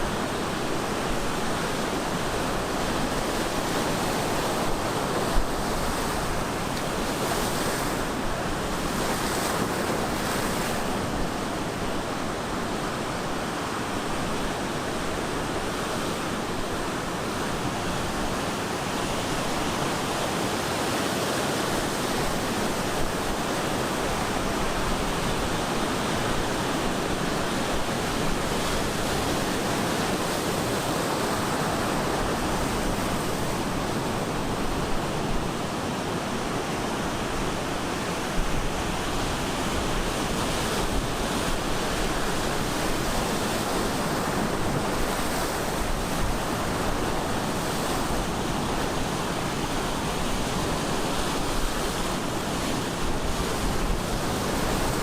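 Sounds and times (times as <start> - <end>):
waves breaking on shore: 0.0 - 55.0
wind on the microphone: 0.0 - 55.0.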